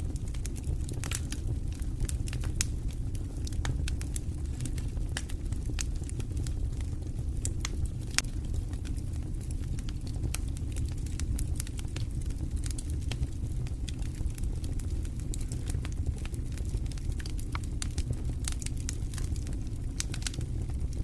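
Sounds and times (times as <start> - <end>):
log fire crackling and popping: 0.0 - 21.0
low rumble of flames: 0.0 - 21.0.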